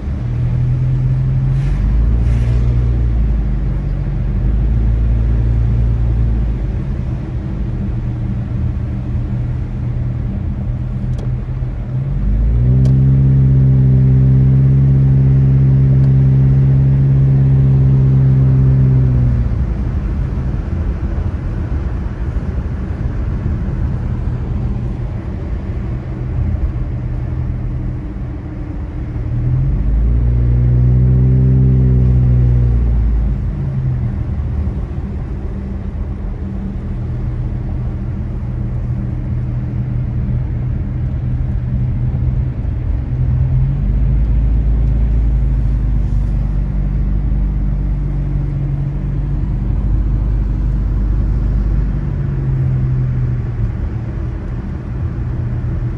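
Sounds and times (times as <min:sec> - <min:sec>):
car engine: 0:00.0 - 0:55.9.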